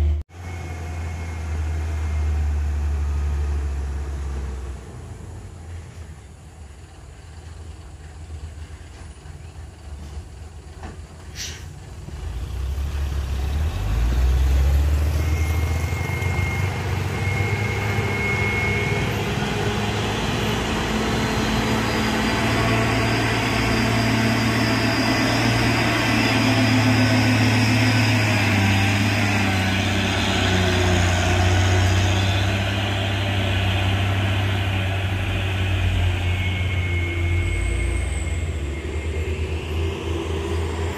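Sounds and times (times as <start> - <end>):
truck diesel engine climbing: 0.0 - 40.9.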